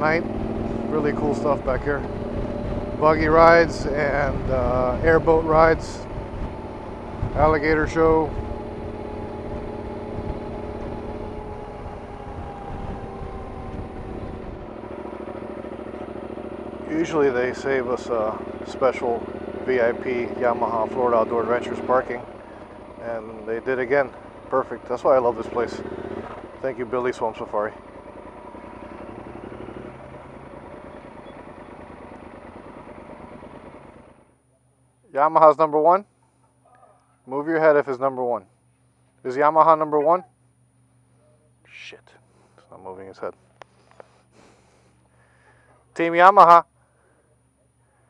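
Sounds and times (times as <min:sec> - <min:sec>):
motorcycle engine running: 0:00.0 - 0:35.0, 0:35.6 - 0:48.0.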